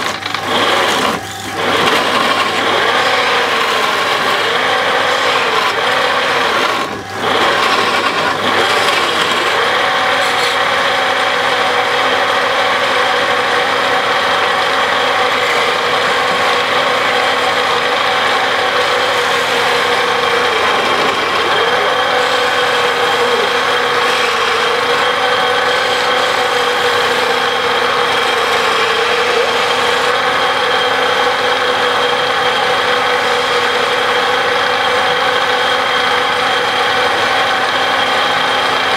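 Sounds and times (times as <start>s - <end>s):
lathe motor hum: 0.0s - 38.9s
turning tool scraping wood: 0.0s - 38.9s.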